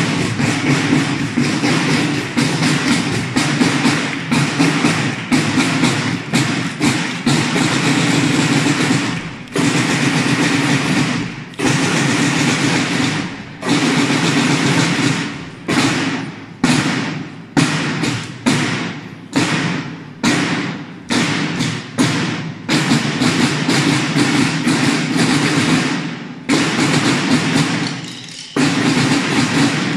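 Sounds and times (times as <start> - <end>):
marching snare drums: 0.0 - 29.9.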